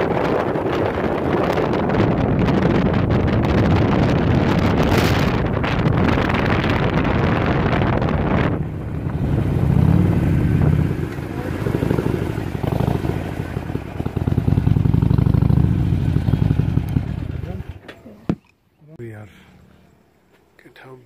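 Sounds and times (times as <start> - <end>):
wind rushing over microphone: 0.0 - 17.7
motorcycle engine rumbling: 0.0 - 20.4.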